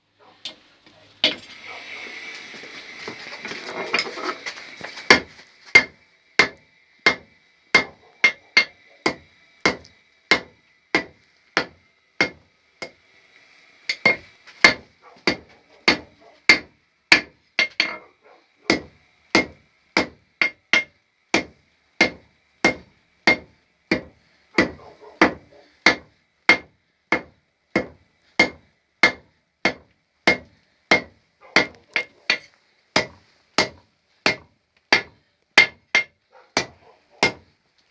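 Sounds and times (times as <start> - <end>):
hammer striking steel anvil: 1.2 - 1.6, 5.1 - 13.0, 13.9 - 18.0, 18.7 - 37.5.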